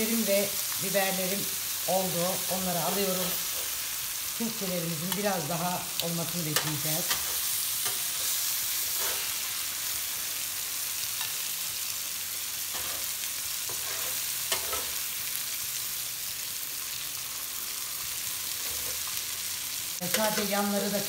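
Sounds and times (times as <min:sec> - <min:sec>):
meat sizzling on griddle: 0:00.0 - 0:21.0.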